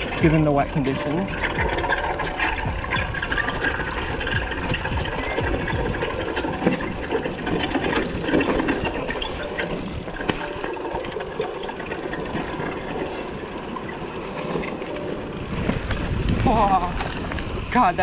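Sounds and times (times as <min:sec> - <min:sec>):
bike rattling over bumps: 0:00.0 - 0:18.0
bike tyres rolling over dirt: 0:00.0 - 0:18.0.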